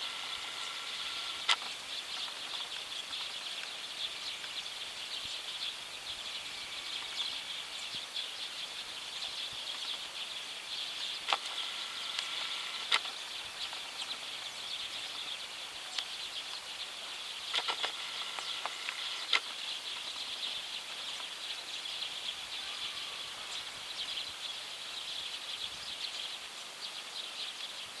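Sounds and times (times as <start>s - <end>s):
flock of sparrows chattering: 0.0s - 28.0s.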